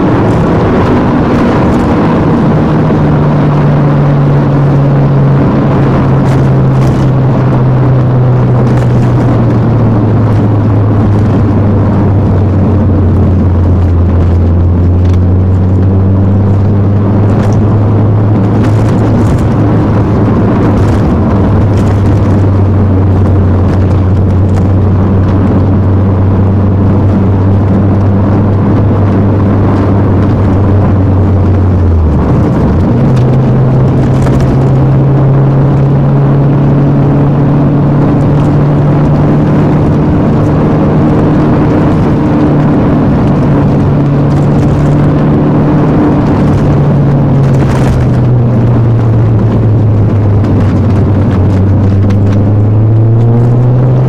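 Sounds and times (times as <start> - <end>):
car engine pulling steadily: 0.0 - 54.0
tyre and road noise: 0.0 - 54.0.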